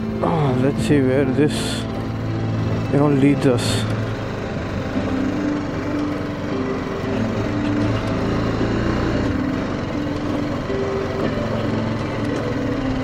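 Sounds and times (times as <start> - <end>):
motorcycle engine at low speed: 0.0 - 13.0.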